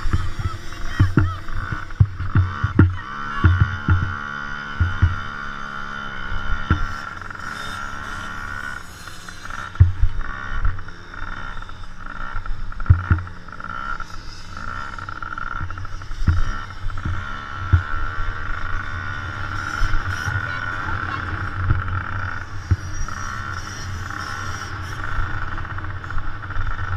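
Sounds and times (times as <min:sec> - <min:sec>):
motocross bikes racing: 0:00.0 - 0:26.9.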